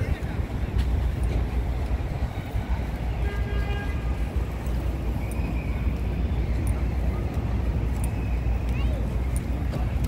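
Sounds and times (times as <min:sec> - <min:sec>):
low rumble of traffic: 0:00.0 - 0:10.0.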